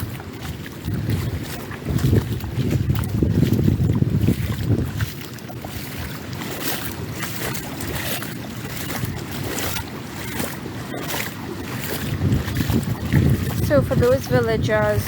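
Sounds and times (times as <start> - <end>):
footsteps splashing through water: 0.0 - 15.0.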